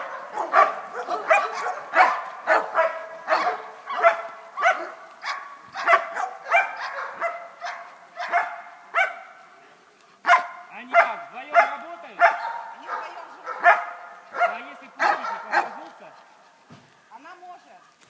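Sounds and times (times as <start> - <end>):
dog barking: 0.0 - 9.5, 10.2 - 16.3.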